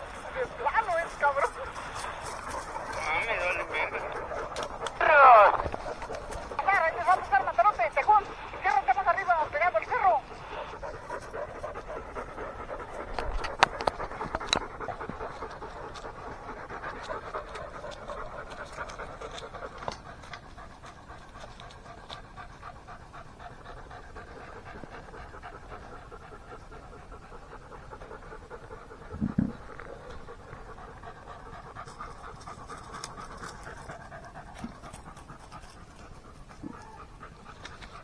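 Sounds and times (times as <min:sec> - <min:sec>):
dog panting: 0:00.0 - 0:38.0.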